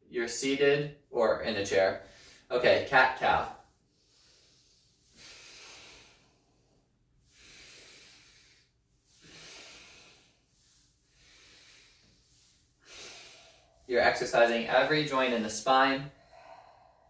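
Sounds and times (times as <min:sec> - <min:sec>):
slow breathing: 0:02.0 - 0:02.5, 0:03.5 - 0:17.0.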